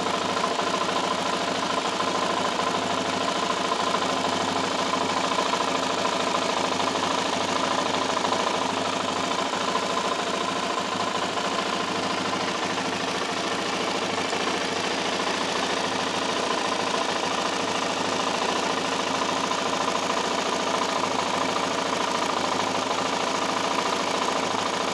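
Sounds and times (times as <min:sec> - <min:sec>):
quad engine idling: 0:00.0 - 0:24.9.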